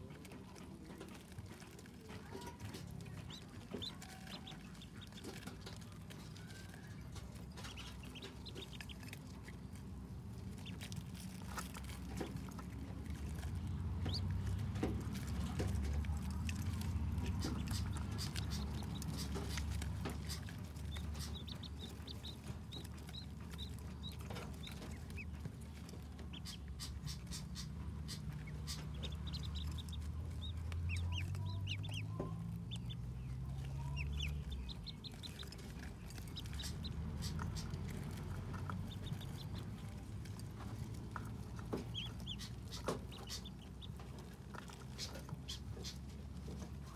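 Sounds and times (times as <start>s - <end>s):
ducklings peeping: 0.0s - 46.9s
steady low rumble: 2.6s - 46.9s.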